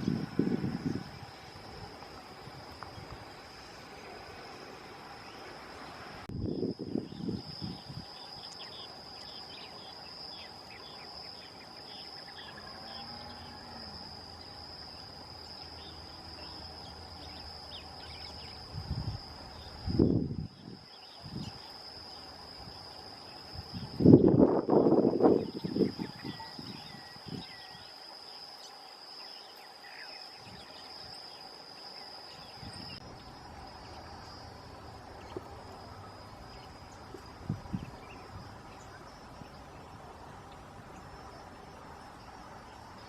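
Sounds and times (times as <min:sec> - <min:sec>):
high-pitched insect drone: 0:00.0 - 0:43.0.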